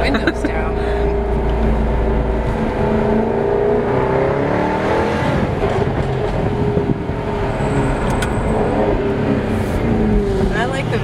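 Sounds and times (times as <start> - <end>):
car engine accelerating: 0.0 - 11.0
road and tyre noise: 0.0 - 11.0.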